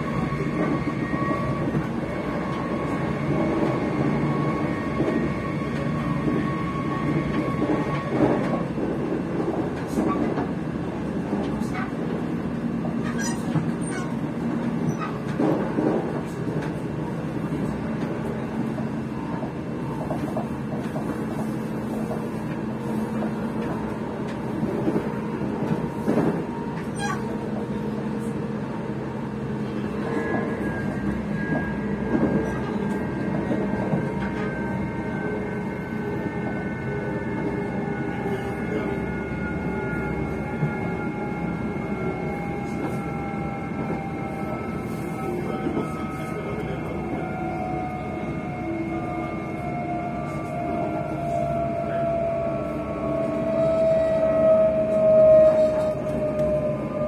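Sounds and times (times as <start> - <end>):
train hum and rumble: 0.0 - 57.0.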